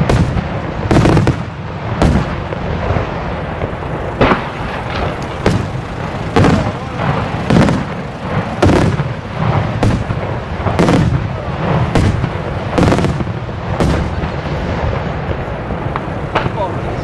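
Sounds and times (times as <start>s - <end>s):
firework shells bursting: 0.0s - 17.0s
low rumble: 0.4s - 17.0s.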